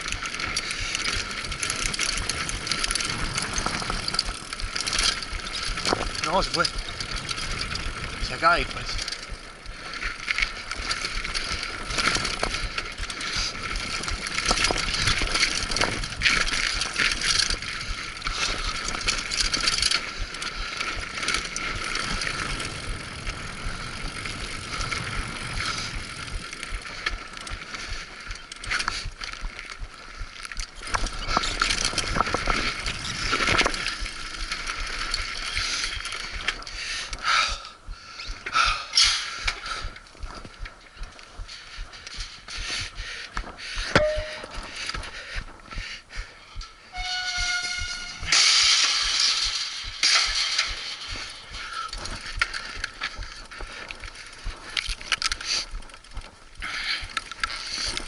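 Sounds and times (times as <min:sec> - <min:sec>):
bike rattling over bumps: 0:00.0 - 0:58.0.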